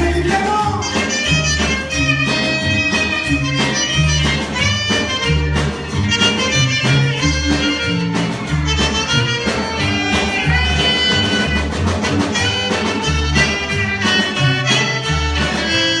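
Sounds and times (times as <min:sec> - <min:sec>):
band playing regional music: 0:00.0 - 0:16.0
stepping bass line: 0:00.0 - 0:16.0
wind or reed instrument melody: 0:00.8 - 0:16.0.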